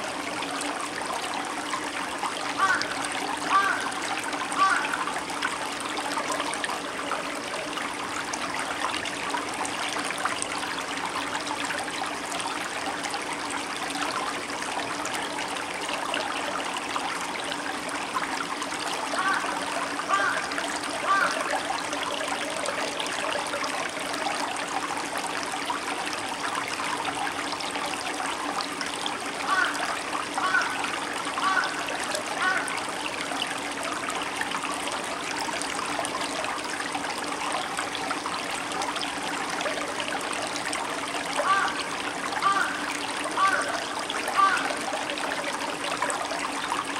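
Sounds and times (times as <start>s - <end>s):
stream babbling over rocks: 0.0s - 46.9s.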